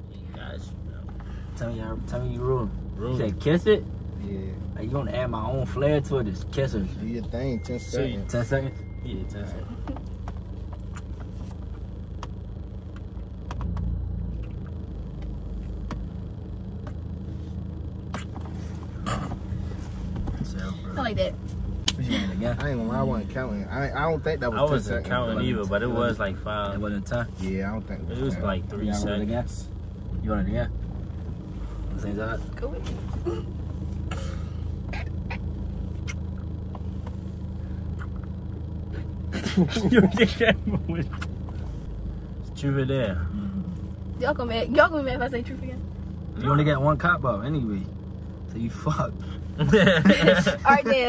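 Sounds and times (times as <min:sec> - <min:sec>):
car engine running: 0:00.0 - 0:51.0
steady low rumble: 0:00.0 - 0:51.0.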